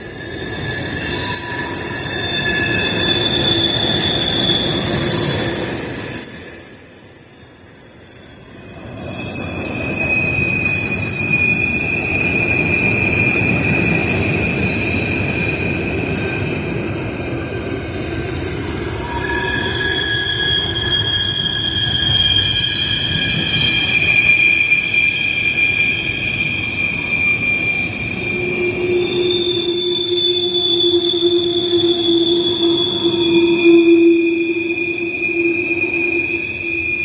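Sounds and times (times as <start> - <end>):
low rumble of train wheels: 0.0 - 37.0
train wheels squealing on rails: 0.0 - 37.0.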